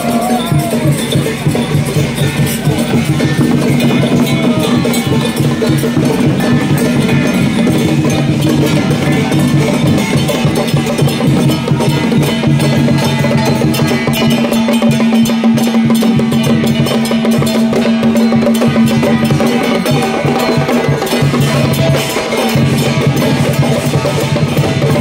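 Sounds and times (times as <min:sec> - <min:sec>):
gongs and drums beating: 0:00.0 - 0:25.0.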